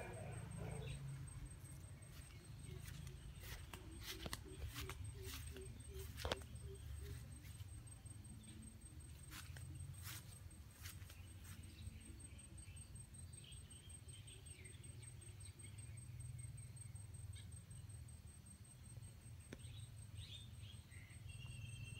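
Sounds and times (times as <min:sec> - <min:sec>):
faint bird chirps: 0:00.0 - 0:18.0, 0:18.9 - 0:21.9.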